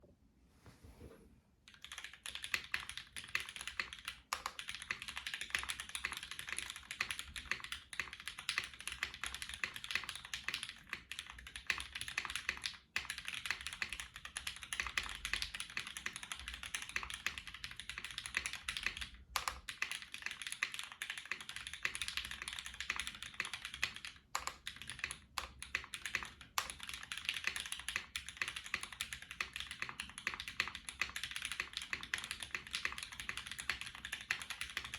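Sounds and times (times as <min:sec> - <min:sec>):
mechanical keyboard typing: 0:01.7 - 0:34.9.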